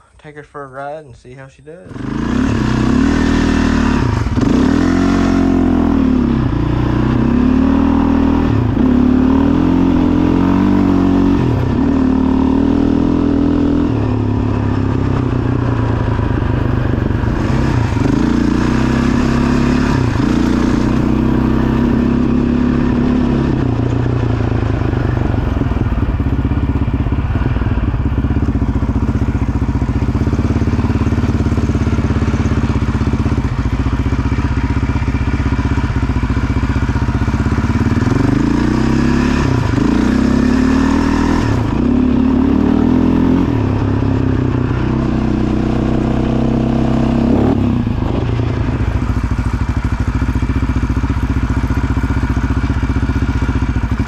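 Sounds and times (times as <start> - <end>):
quad engine revving: 1.8 - 54.0.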